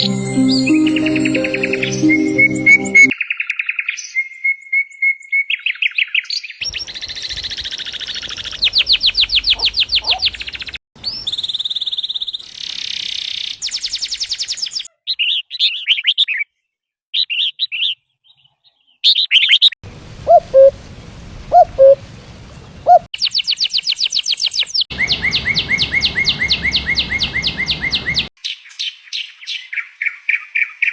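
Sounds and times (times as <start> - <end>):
small birds chirping and trilling: 0.0 - 19.8, 22.6 - 30.9.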